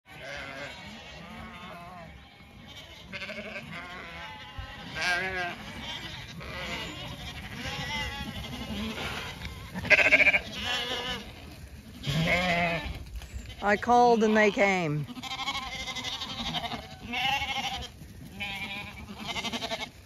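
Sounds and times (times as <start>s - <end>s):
lambs bleating: 0.1s - 20.0s.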